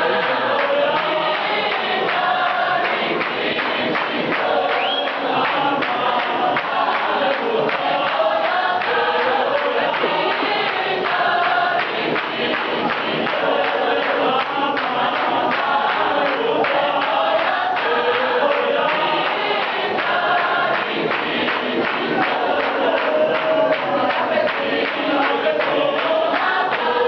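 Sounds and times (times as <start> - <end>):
gospel choir singing: 0.0 - 27.0
hand claps: 0.0 - 27.0.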